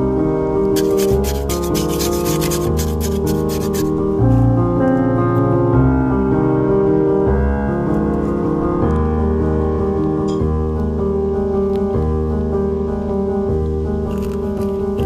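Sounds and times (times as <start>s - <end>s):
slow piano chords over bass: 0.0s - 15.0s.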